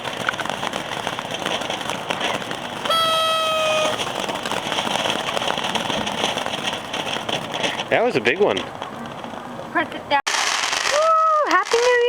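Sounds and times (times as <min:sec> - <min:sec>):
firework crackling and hissing: 0:00.0 - 0:12.0.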